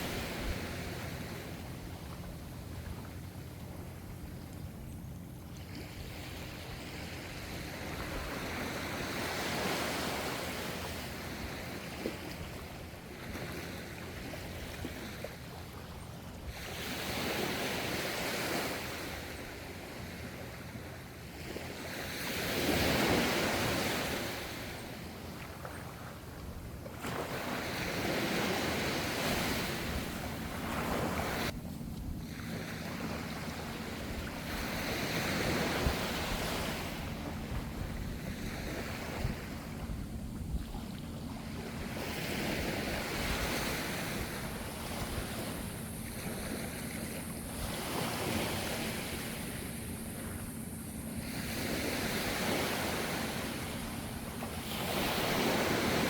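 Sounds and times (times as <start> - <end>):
ocean waves washing onto shore: 0.0 - 4.4, 5.2 - 56.0
low rumble of sea: 0.0 - 56.0.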